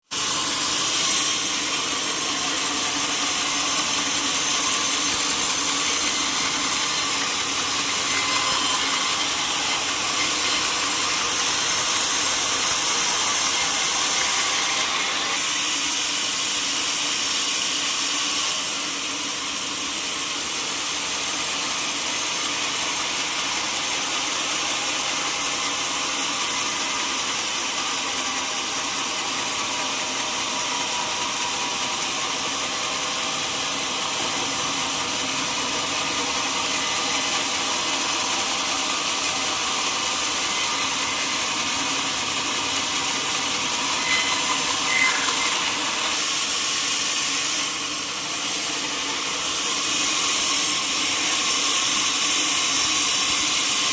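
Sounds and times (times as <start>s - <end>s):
saw blade cutting wood: 0.0s - 53.9s.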